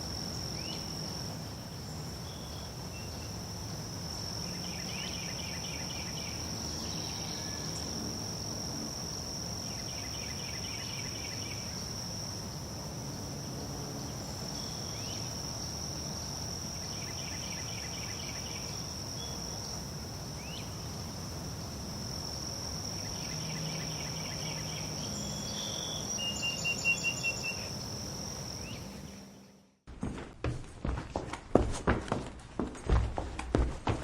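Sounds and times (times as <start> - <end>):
crickets trilling: 0.0 - 29.8.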